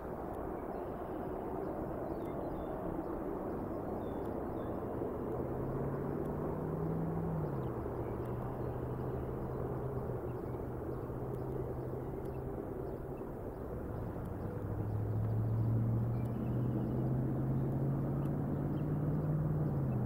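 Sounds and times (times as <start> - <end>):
distant engine drone: 0.0 - 20.0.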